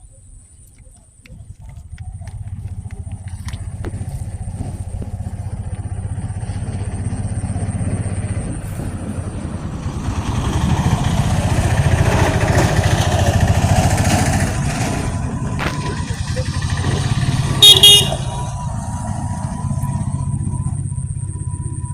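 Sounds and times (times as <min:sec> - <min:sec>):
small engine running: 0:01.4 - 0:21.9.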